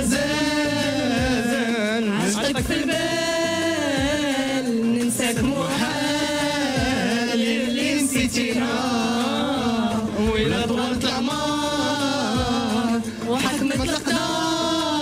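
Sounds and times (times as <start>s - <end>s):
musical backing: 0.0s - 15.0s.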